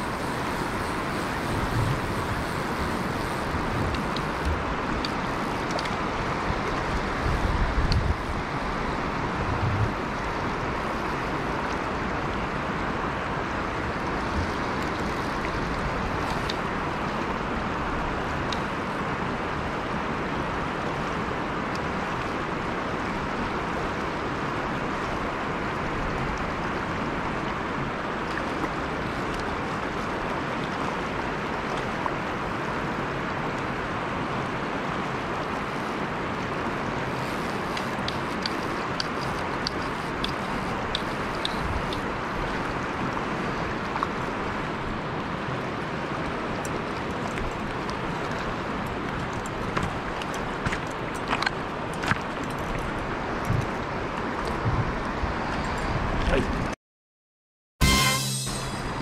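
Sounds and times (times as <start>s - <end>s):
flowing river water: 0.0s - 56.8s.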